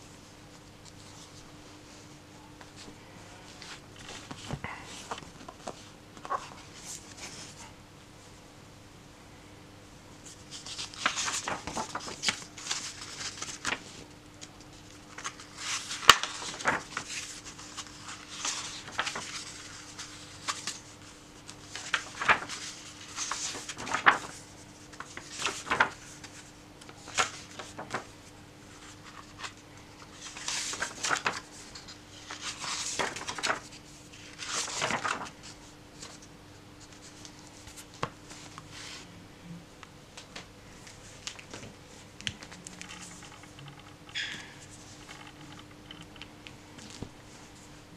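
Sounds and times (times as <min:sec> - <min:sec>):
paper pages turning: 0:03.6 - 0:07.6, 0:10.2 - 0:38.6, 0:40.3 - 0:47.7.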